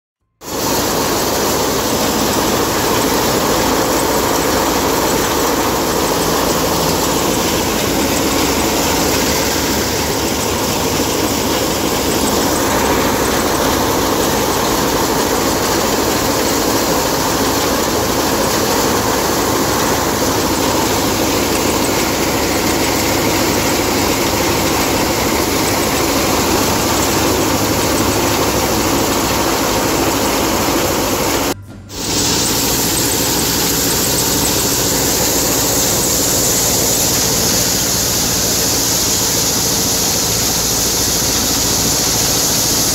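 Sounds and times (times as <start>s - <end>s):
grain pouring into steel basin: 0.4s - 42.9s
threshing machine running: 0.4s - 42.9s.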